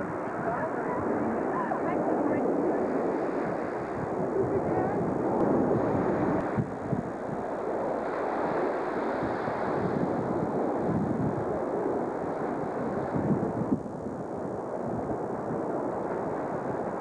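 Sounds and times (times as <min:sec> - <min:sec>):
distant jet noise: 0:00.0 - 0:17.0
wind on microphone: 0:00.0 - 0:17.0.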